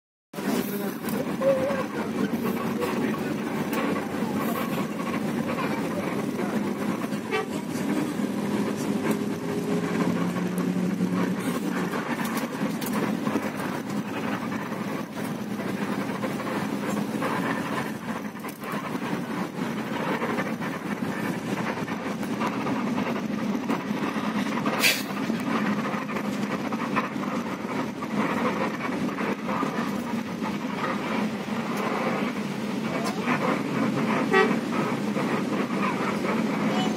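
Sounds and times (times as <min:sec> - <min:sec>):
bus engine and road noise: 0:00.3 - 0:36.9.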